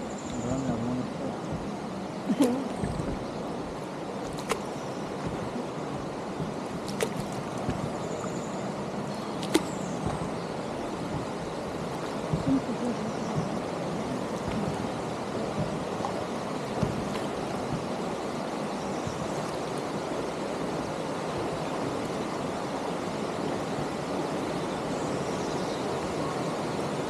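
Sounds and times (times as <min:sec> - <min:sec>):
flowing water rushing: 0:00.0 - 0:27.0.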